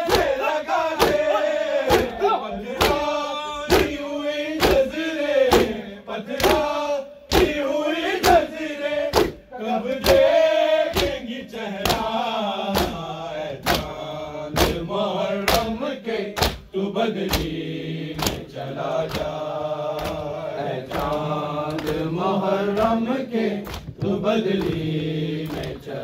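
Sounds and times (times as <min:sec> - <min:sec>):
men chanting in unison: 0:00.0 - 0:26.0.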